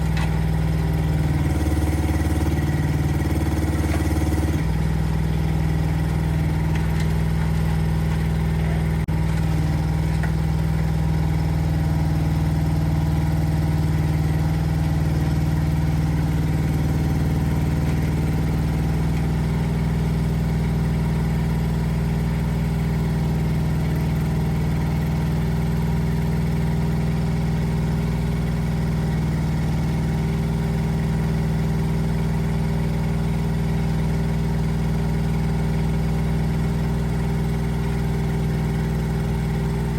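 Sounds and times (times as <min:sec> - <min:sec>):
mini excavator engine humming: 0:00.0 - 0:39.9.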